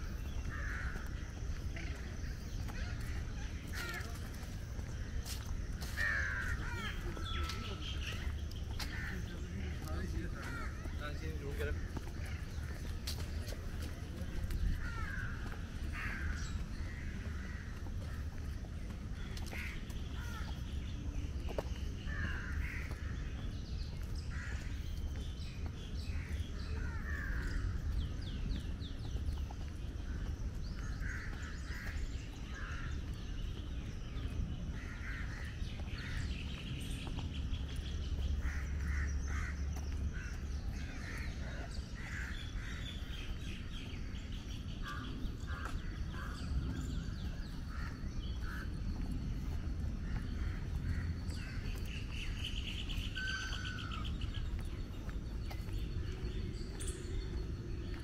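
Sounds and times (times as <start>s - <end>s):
birds calling and chirping: 0.0s - 58.0s.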